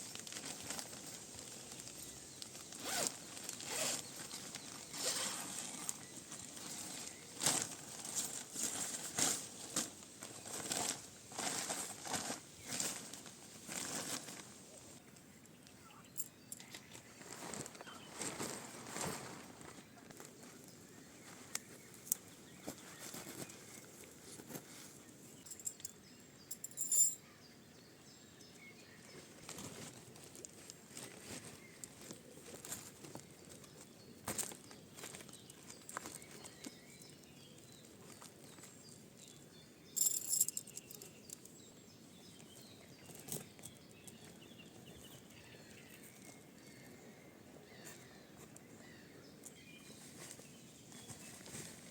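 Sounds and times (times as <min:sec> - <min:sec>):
small clicks and rustles: 0:00.0 - 0:27.2, 0:29.0 - 0:46.9.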